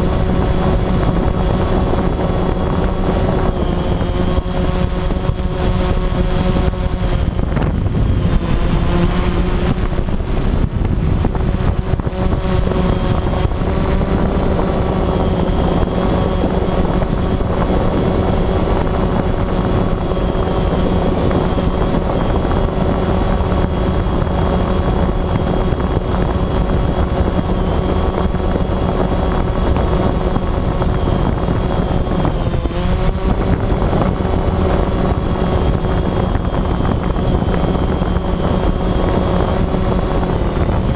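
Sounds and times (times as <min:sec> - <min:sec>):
drone propellers buzzing: 0:00.0 - 0:40.9.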